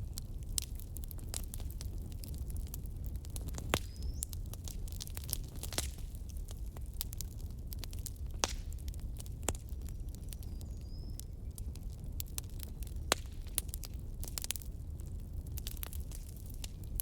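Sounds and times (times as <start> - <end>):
campfire crackling and popping: 0.0 - 17.0
low steady fire rumble: 0.0 - 17.0.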